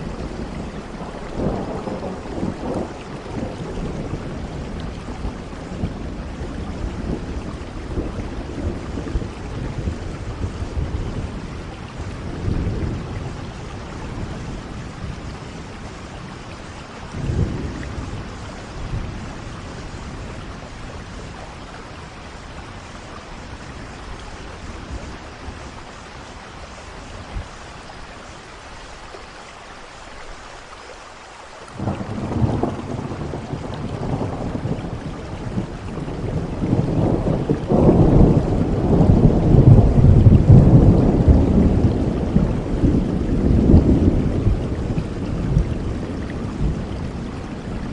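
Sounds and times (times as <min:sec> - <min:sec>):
thunder rumble: 0:00.0 - 0:28.2, 0:31.7 - 0:47.9
rain hiss: 0:00.0 - 0:47.9.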